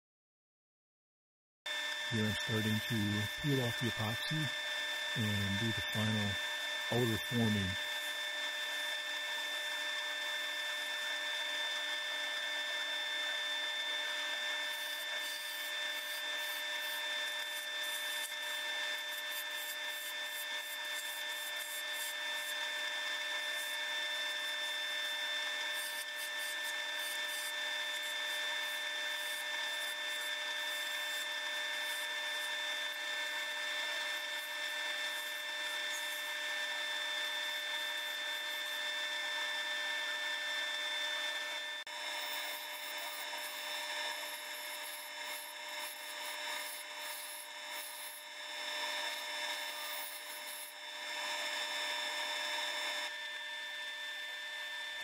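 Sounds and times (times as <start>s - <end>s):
high-pitched lathe whine: 1.7s - 55.0s.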